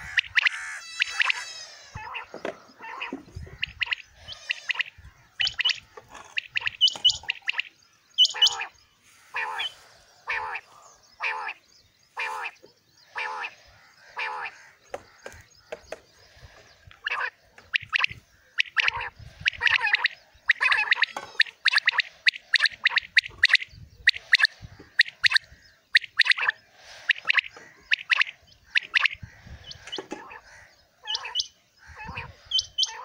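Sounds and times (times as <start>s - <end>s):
quail calling: 0.0s - 33.0s.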